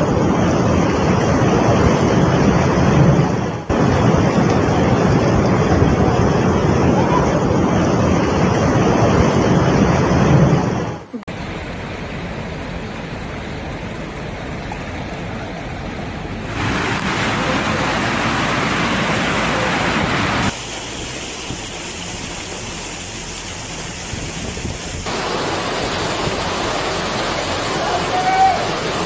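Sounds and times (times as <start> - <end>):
heavy rain: 0.0 - 29.0
rushing floodwater: 0.0 - 29.0.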